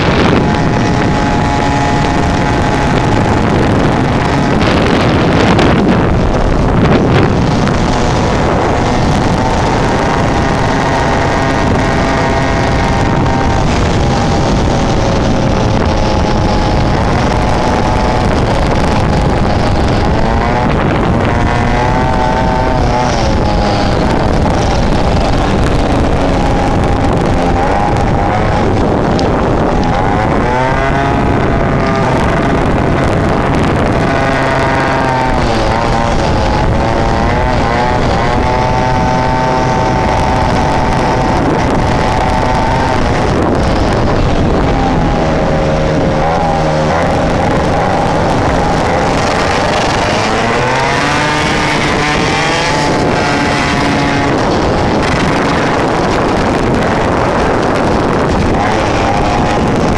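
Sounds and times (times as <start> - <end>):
motorcycle engine revving: 0.0 - 59.9
wind rushing on microphone: 0.0 - 59.9.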